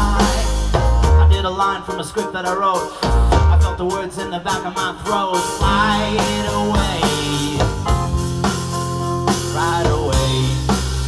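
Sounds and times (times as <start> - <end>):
bass: 0.0 - 11.0
drum kit: 0.0 - 11.0
synth keyboards: 0.0 - 11.0.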